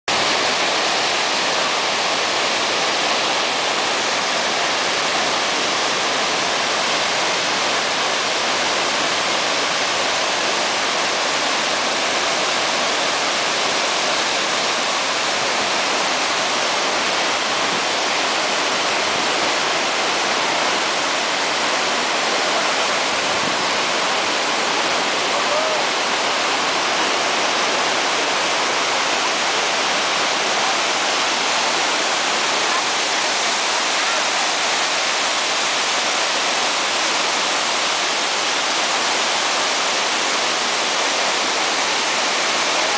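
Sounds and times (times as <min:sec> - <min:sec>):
waterfall rushing: 0:00.1 - 0:42.9.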